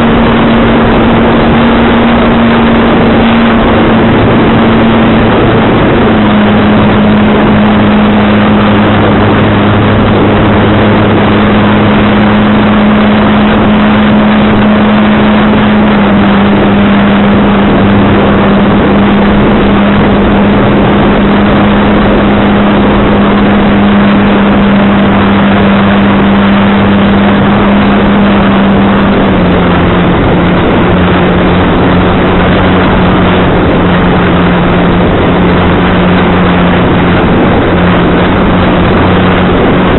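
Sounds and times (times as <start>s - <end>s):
steady low hum: 0.0s - 39.9s
wind buffeting microphone: 0.0s - 39.9s.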